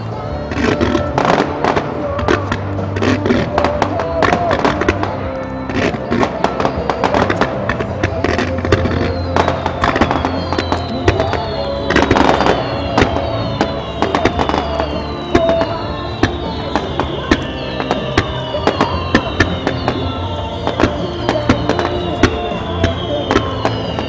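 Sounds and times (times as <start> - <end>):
fireworks bursting and crackling: 0.0 - 24.0
music over sound system: 0.0 - 24.0.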